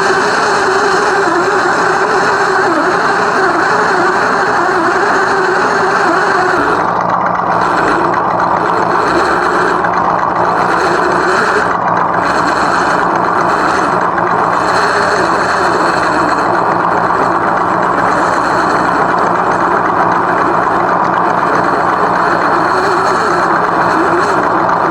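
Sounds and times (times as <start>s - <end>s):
simulated truck engine idling: 0.0s - 24.9s.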